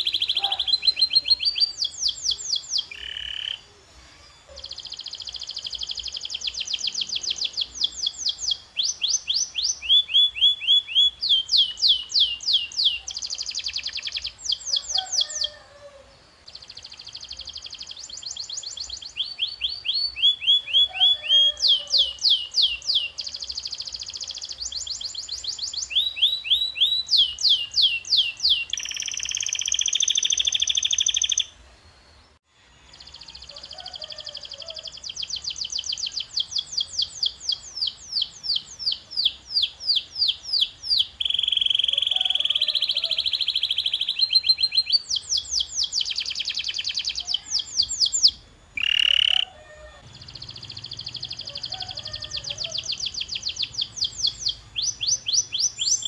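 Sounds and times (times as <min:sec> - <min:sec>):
canary singing: 0:00.0 - 0:31.6, 0:32.8 - 0:56.0.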